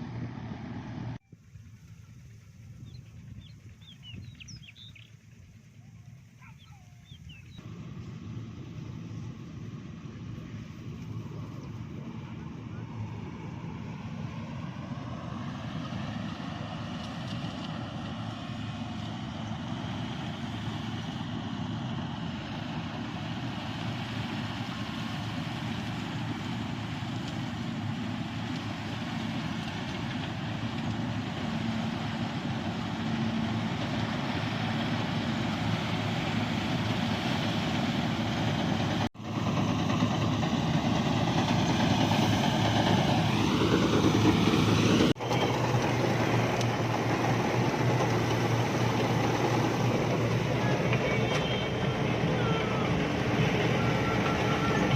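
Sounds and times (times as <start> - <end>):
farm machinery engine running: 0.0 - 5.0, 7.3 - 54.9.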